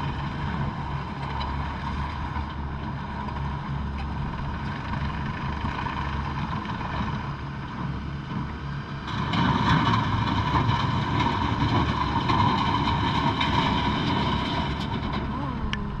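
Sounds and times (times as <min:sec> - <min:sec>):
diesel engine running: 0:00.0 - 0:16.0
engine whine: 0:00.0 - 0:16.0.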